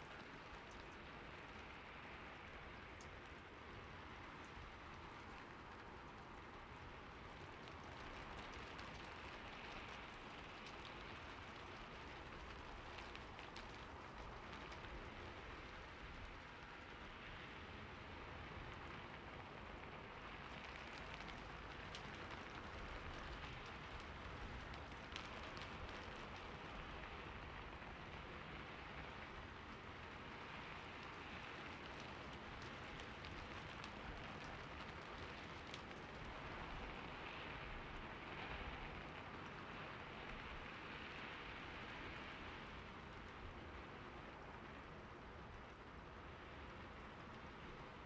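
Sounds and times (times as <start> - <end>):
rain on a roof: 0.0 - 48.0.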